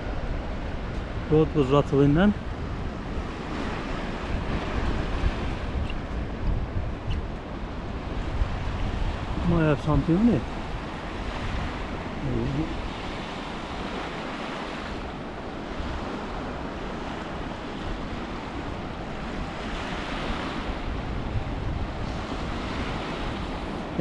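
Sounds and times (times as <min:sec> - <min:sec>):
small waves breaking on beach: 0:00.0 - 0:24.0
wind gusting on microphone: 0:00.0 - 0:24.0.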